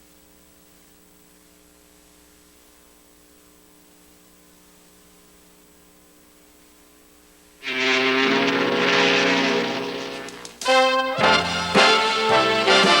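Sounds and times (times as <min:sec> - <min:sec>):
faint electrical hum: 0:00.0 - 0:10.8
tape hiss: 0:00.0 - 0:12.2.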